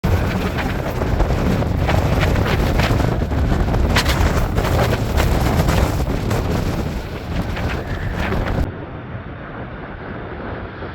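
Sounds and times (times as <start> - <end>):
gusty wind buffeting microphone: 0.0 - 10.9.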